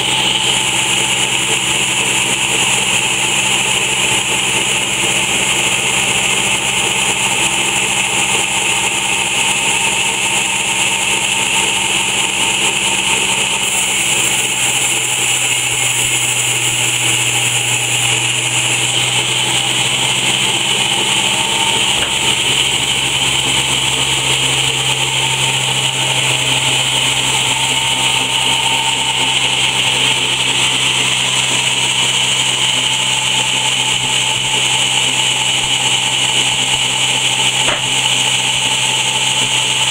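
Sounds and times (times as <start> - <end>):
sawmill machine hum with whine: 0.0 - 39.9.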